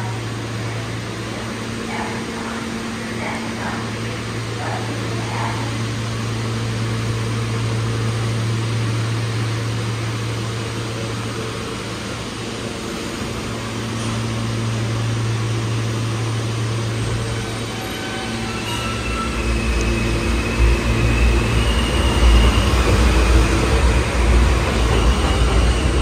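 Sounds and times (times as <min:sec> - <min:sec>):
subway train air hum and rush: 0:00.0 - 0:26.0
train starting low rumble: 0:00.0 - 0:26.0.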